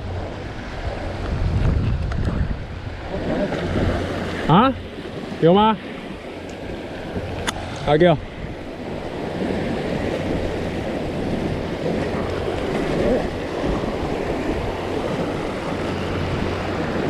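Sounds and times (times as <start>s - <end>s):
surf against rocky shore: 0.0s - 17.0s
wind on microphone: 0.0s - 17.0s.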